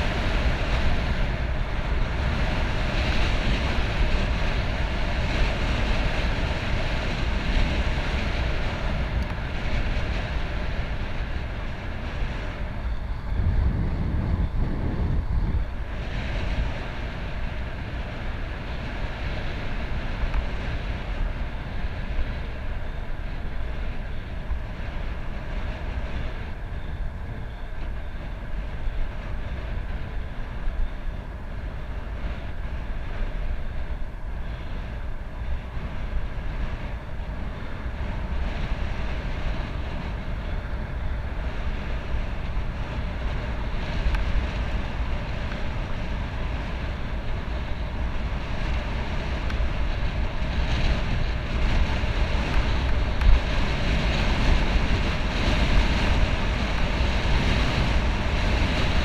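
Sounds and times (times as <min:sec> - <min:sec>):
tyres humming on asphalt: 0:00.0 - 0:59.0
wind rushing over microphone: 0:00.0 - 0:59.0.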